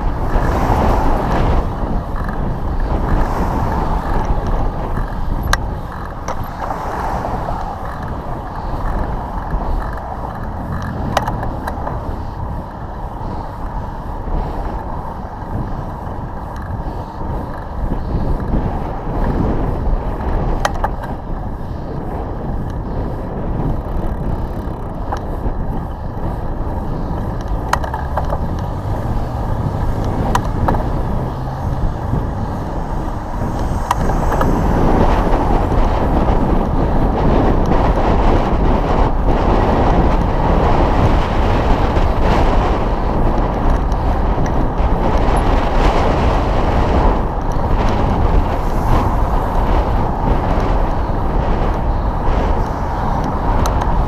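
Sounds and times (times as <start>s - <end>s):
road traffic rumble: 0.0s - 54.0s
wind buffeting microphone: 0.0s - 54.0s.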